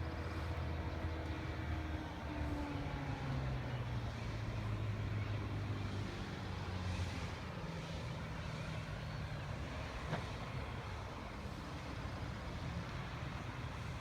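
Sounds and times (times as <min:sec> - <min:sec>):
boat engine droning: 0:00.0 - 0:14.0
continuous rushing noise: 0:00.0 - 0:14.0.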